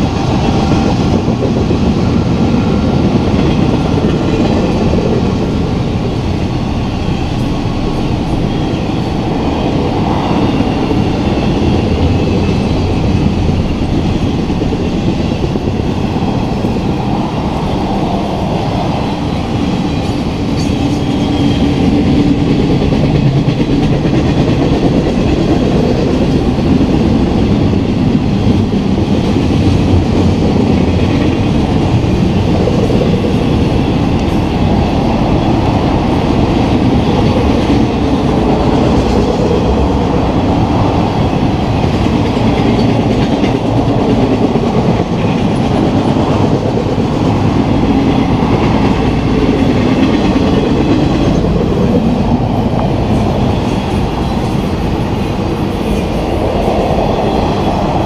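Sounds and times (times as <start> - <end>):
steel train wheels rumbling on rail: 0.0 - 58.0.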